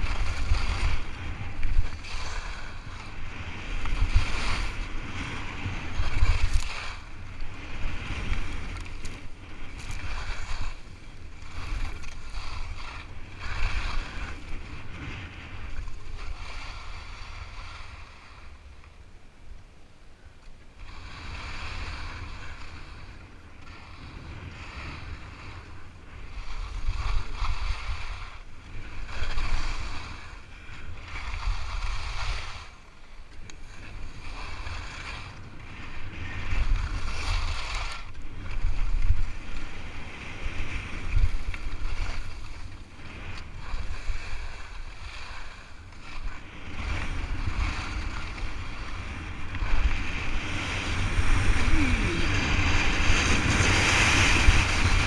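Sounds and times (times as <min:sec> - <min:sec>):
wind buffeting microphone: 0:00.0 - 0:18.4, 0:20.8 - 0:55.0
skis scraping on snow: 0:00.0 - 0:19.1, 0:20.8 - 0:55.0.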